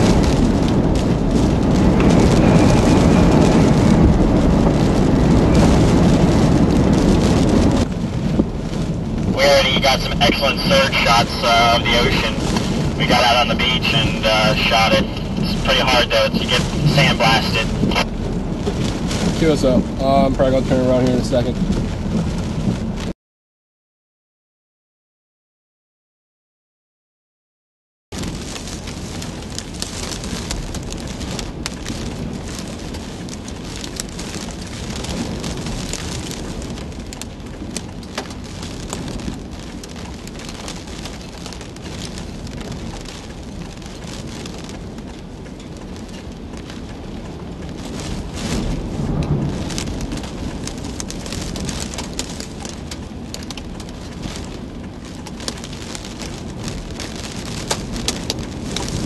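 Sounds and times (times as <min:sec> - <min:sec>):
gust buffeting car: 0:00.0 - 0:23.1, 0:28.1 - 0:59.0
hurricane wind: 0:00.0 - 0:23.1, 0:28.1 - 0:59.0
rain drops ticking on windshield: 0:00.0 - 0:23.1, 0:28.2 - 0:59.0.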